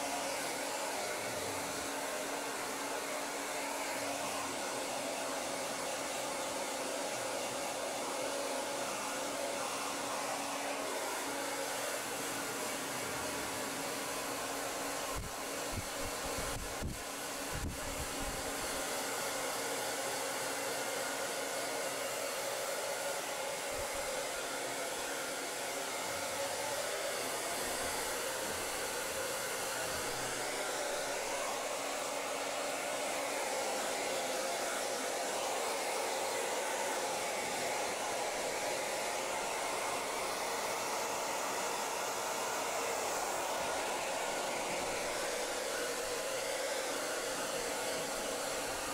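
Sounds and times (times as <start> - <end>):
hair dryer blowing: 0.0 - 48.9.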